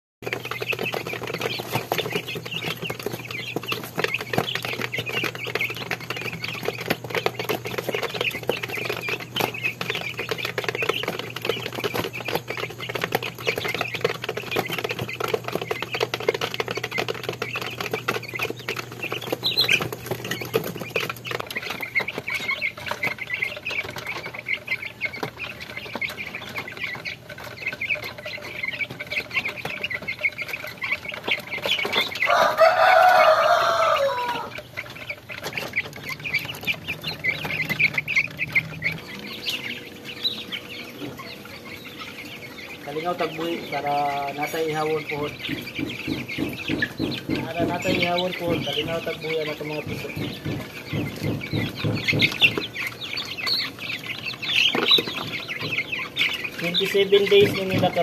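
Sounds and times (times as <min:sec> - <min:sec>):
chicks pecking plastic feeder: 0:00.2 - 0:58.0
chicks peeping: 0:00.2 - 0:58.0.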